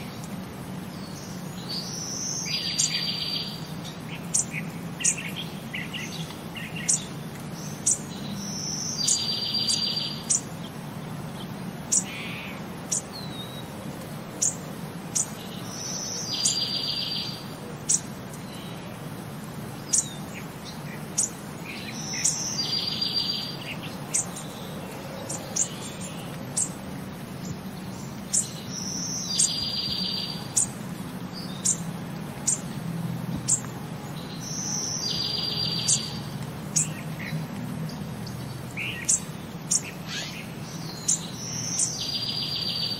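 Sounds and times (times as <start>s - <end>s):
bird trill: 1.0s - 10.5s, 14.4s - 18.8s, 19.9s - 26.8s, 27.4s - 32.7s, 34.2s - 42.9s
bird chirps: 1.0s - 10.7s, 14.4s - 18.9s, 19.8s - 26.8s, 27.4s - 32.8s, 33.4s - 42.9s.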